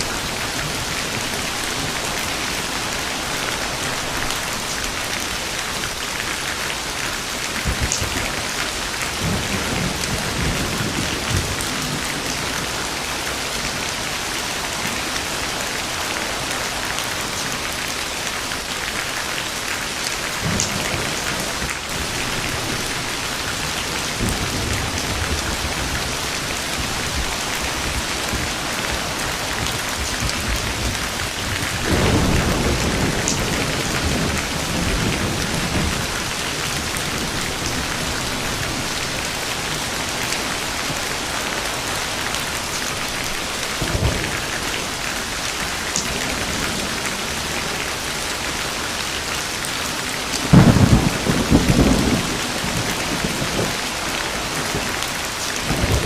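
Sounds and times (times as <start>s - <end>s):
thunder rumbling: 0.0s - 16.4s, 20.2s - 49.0s, 49.9s - 56.0s
heavy rain falling: 0.0s - 56.0s.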